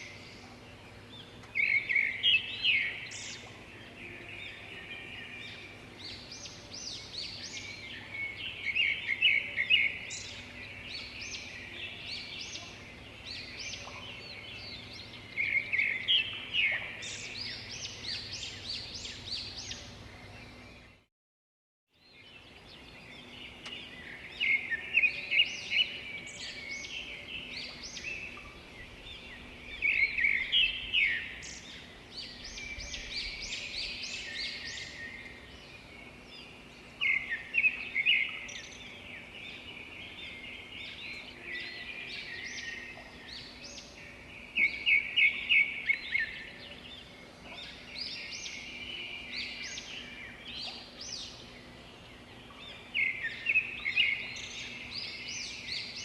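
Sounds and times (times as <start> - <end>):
birds chirping and calling: 0.0 - 21.0, 22.2 - 56.0.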